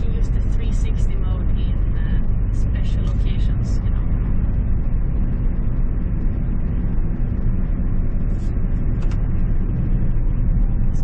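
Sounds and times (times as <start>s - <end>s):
truck engine and road noise in cab: 0.0s - 11.0s.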